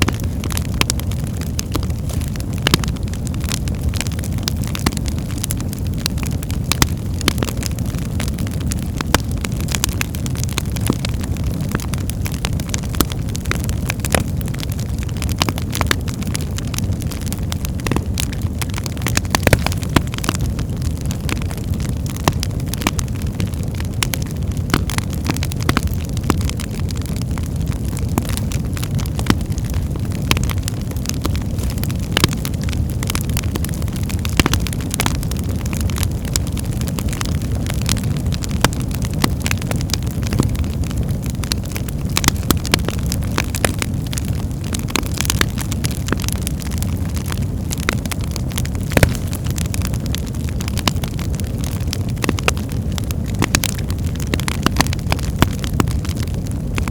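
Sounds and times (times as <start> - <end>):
fire crackles and pops: 0.0 - 56.9
low rumble of flames: 0.0 - 56.9.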